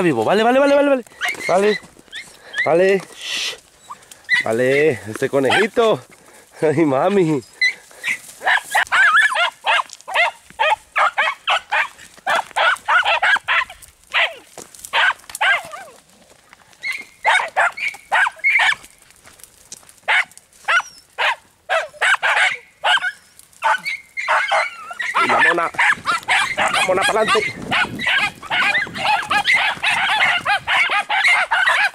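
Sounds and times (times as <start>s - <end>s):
dogs barking in high yelps: 0.0s - 6.1s, 7.0s - 16.1s, 16.7s - 19.0s, 20.0s - 31.9s.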